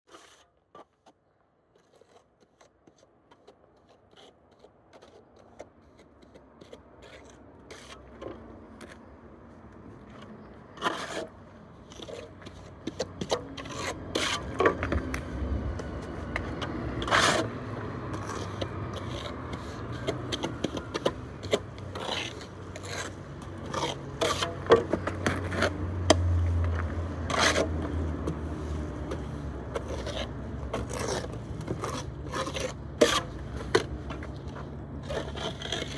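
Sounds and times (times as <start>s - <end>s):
trowel scraping render: 0.1s - 9.1s, 10.0s - 35.9s.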